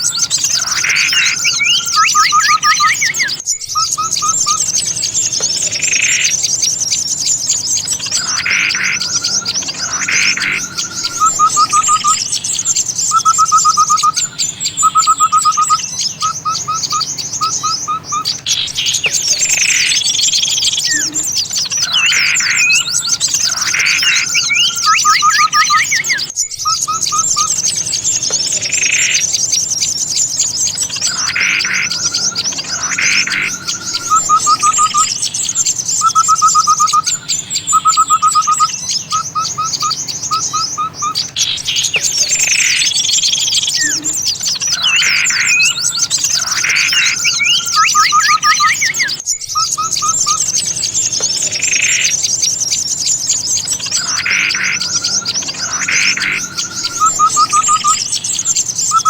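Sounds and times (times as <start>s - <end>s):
songbirds chirping and calling: 0.0s - 59.0s.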